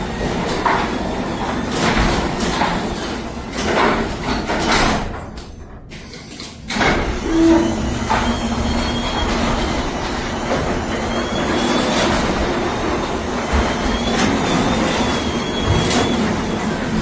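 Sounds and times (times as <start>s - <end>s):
garage door rolling on tracks: 0.0s - 17.0s.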